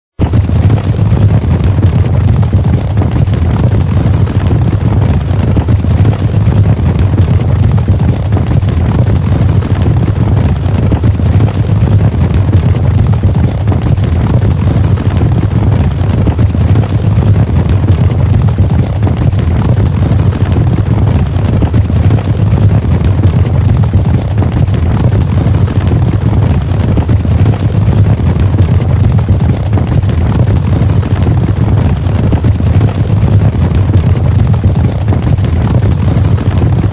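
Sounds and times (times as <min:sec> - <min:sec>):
horses galloping: 0:00.2 - 0:36.9.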